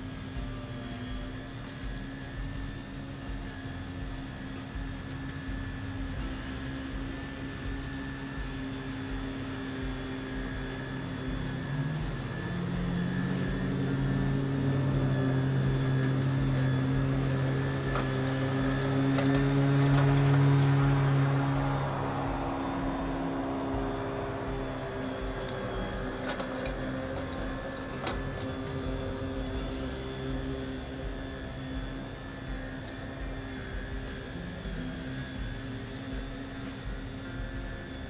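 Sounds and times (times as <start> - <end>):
electric push mower humming: 0.0 - 38.0.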